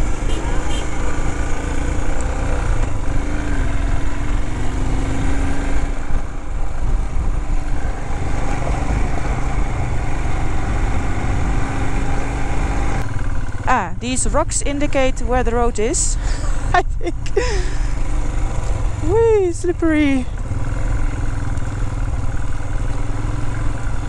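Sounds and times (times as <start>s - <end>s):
motorcycle engine running: 0.0s - 24.0s
wheels rumbling on gravel: 0.0s - 24.0s
wind: 0.0s - 24.0s.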